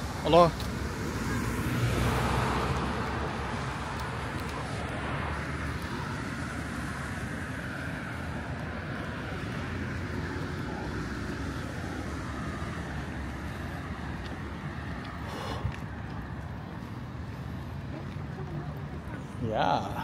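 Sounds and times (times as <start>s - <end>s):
city street traffic noise: 0.0s - 20.0s.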